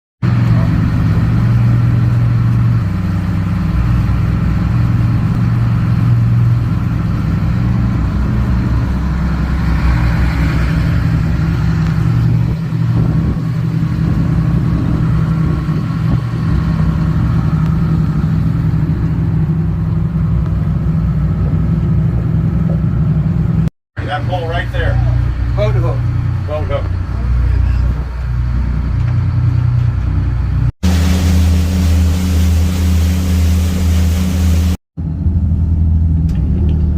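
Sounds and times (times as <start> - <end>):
car engine driving: 0.2 - 36.9
road rumble: 0.2 - 36.9.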